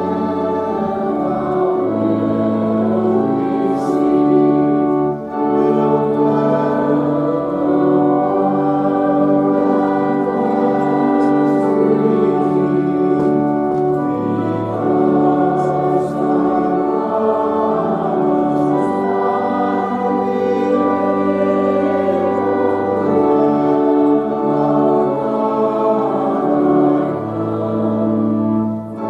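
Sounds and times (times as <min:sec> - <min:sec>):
organ chords: 0:00.0 - 0:29.0
voices singing a hymn: 0:00.0 - 0:29.0.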